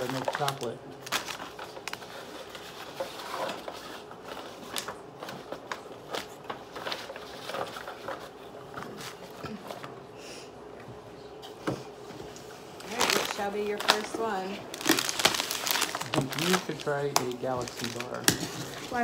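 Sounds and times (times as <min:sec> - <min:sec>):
paper rustling: 0:00.0 - 0:09.8, 0:12.8 - 0:19.0
snack packaging crinkling: 0:00.0 - 0:09.8, 0:12.7 - 0:19.0.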